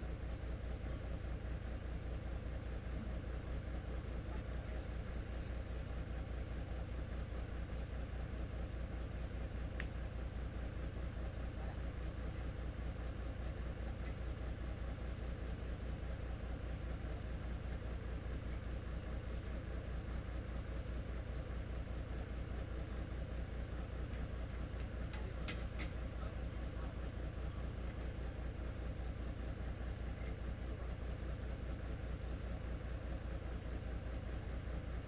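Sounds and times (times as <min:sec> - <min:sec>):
diesel truck engine idling: 0:00.1 - 0:35.0.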